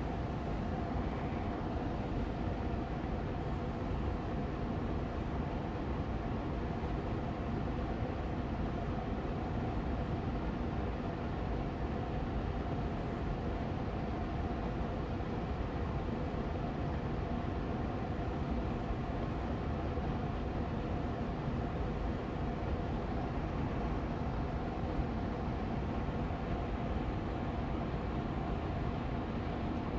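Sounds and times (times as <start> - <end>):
air purifier fan running: 0.0 - 29.9.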